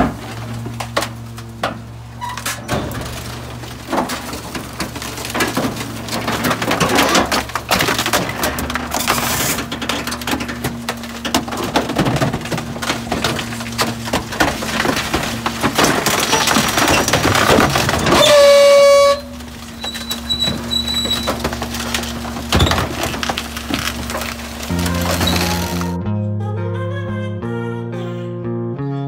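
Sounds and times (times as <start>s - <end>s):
waste cracking and splintering: 0.0s - 26.0s
truck engine hum: 0.0s - 26.2s.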